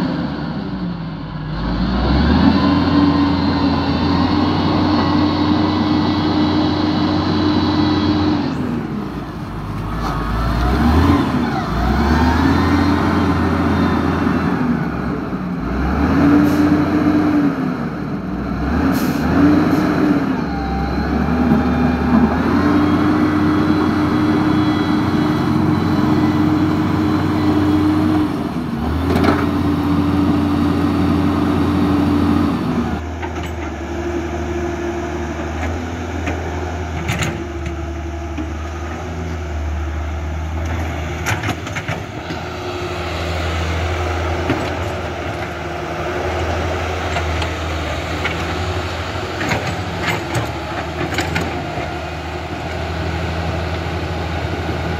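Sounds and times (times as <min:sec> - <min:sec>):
construction machine engine drone: 0:00.0 - 0:54.9.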